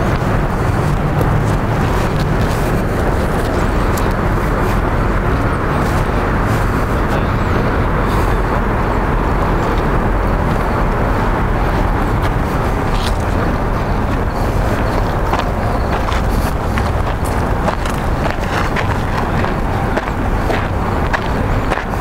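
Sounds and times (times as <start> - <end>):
loud rushing outdoor noise: 0.0 - 22.0.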